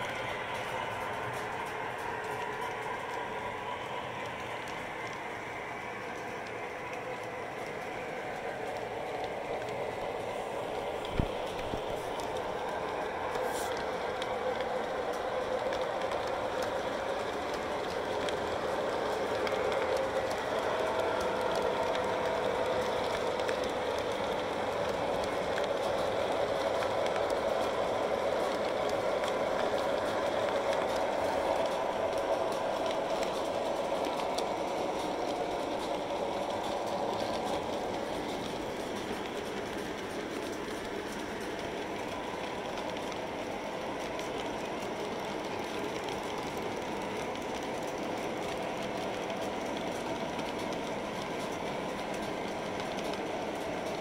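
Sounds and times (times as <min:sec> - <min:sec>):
model train wheels on rails: 0:00.0 - 0:54.0.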